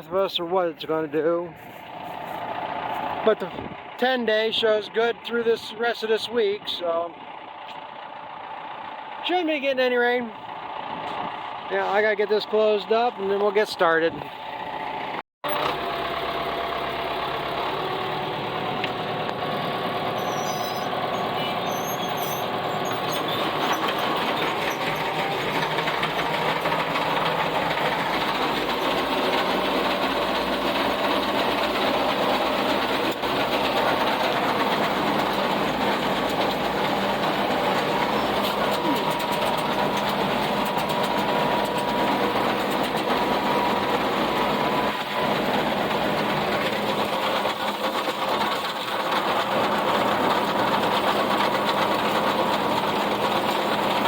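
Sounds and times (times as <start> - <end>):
tractor engine drone: 0.0 - 54.0.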